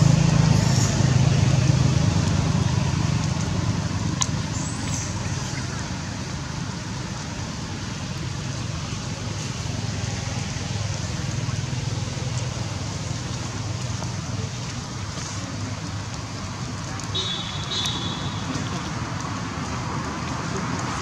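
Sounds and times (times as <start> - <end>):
rain on grass and leaves: 0.0 - 21.0.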